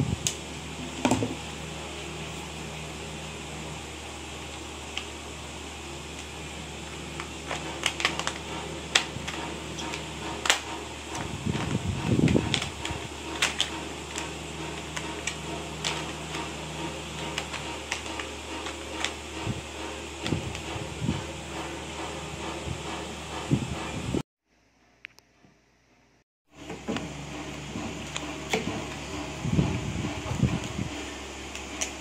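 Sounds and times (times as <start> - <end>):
fan-like hum: 0.0 - 32.0.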